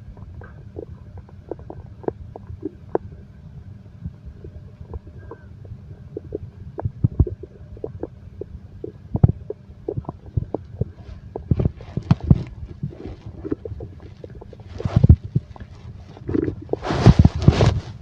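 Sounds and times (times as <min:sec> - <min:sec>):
stomach growling: 0:00.0 - 0:03.4, 0:04.0 - 0:18.0.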